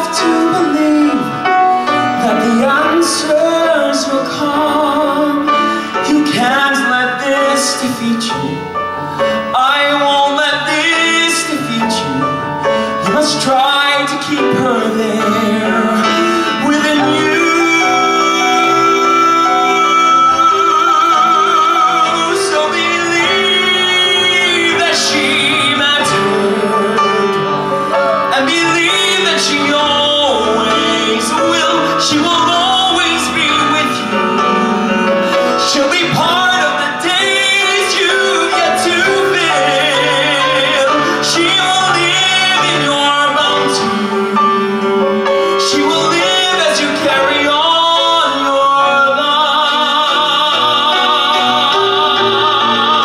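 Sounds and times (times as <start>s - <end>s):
man singing a ballad: 0.0s - 53.0s
musical accompaniment: 0.0s - 53.0s.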